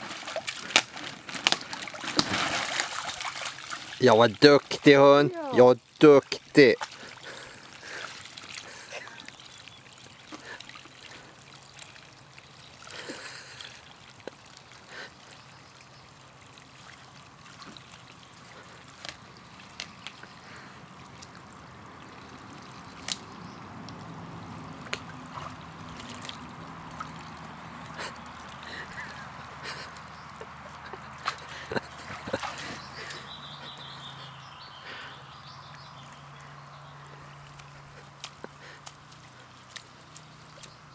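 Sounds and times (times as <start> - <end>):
water trickling onto grass: 0.0 - 40.9.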